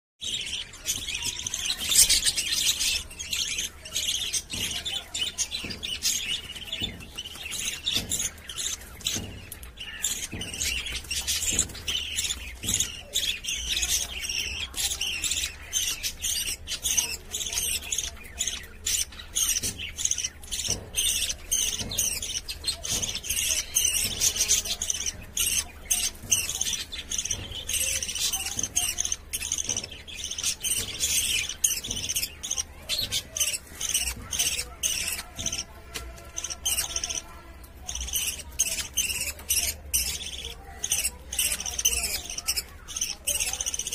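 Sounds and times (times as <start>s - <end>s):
budgerigars chirping and squawking: 0.2s - 43.9s.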